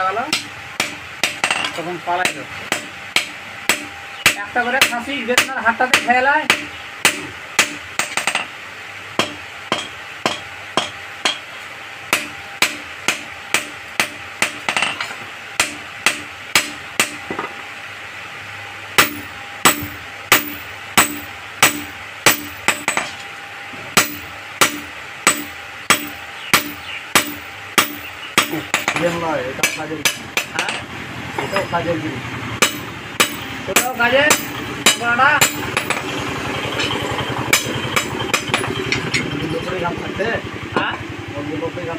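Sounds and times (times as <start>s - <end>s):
hammer striking metal on anvil: 0.0s - 8.5s, 9.2s - 11.5s, 12.1s - 17.5s, 19.0s - 23.2s, 24.0s - 31.8s, 32.6s - 39.8s.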